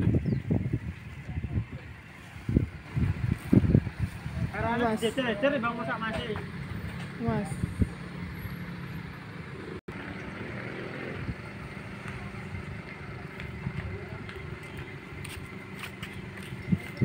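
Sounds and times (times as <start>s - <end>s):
car engine low hum: 0.0s - 17.0s.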